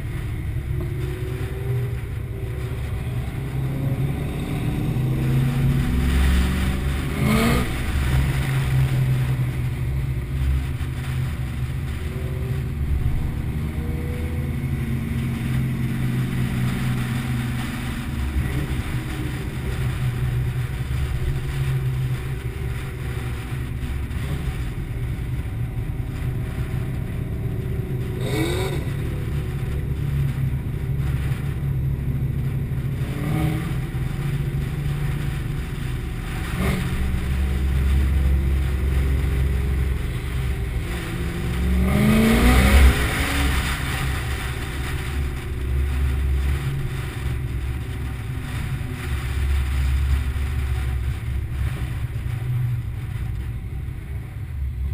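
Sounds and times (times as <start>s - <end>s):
engine revving: 0.0s - 53.1s
car engine rumbling: 0.0s - 54.9s.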